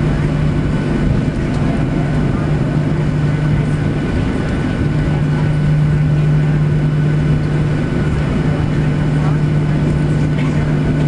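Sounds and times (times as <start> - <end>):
jet engines running at low thrust: 0.0 - 11.0.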